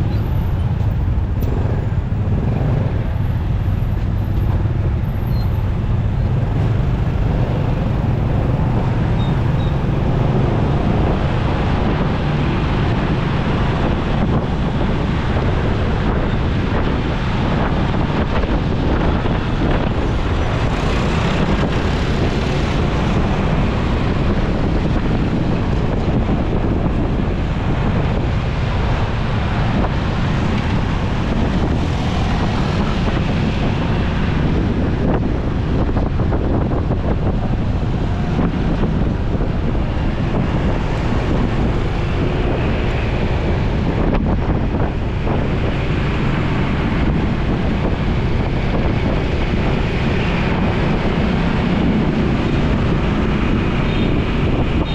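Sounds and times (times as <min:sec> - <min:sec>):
road traffic noise: 0:00.0 - 0:54.9
wind on microphone: 0:00.0 - 0:54.9.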